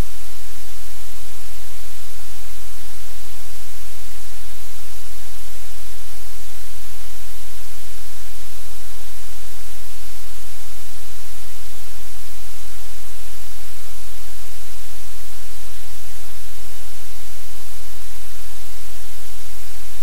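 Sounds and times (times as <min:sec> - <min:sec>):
static hiss: 0:00.0 - 0:20.0.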